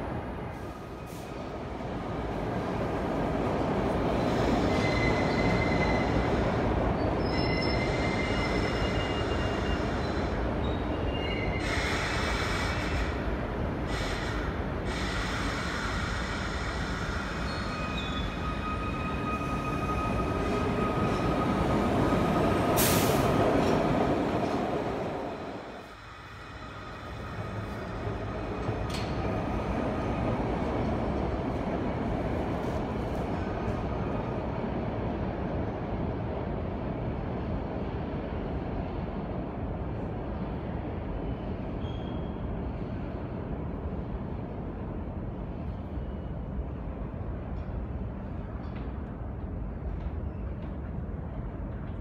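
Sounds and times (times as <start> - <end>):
subway train rumbling on rails: 0.0 - 52.0.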